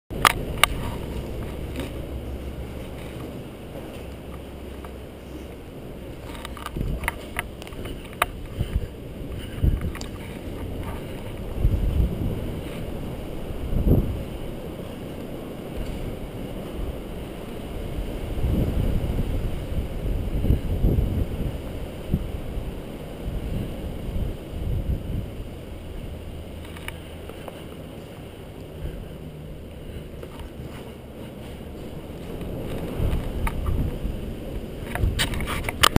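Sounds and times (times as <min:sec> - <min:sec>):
wind buffeting microphone: 0:00.1 - 0:35.9.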